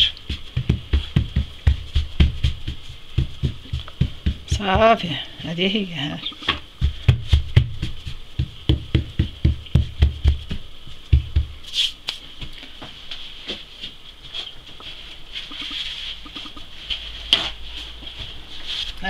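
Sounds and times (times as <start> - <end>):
palm patting dough: 0.0 - 18.4.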